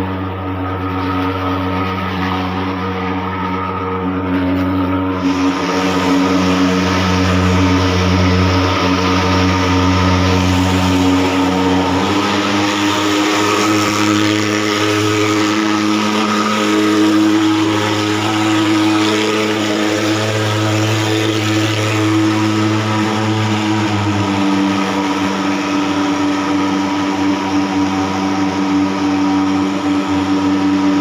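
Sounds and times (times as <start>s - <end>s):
fogging machine buzzing drone: 0.0s - 31.0s.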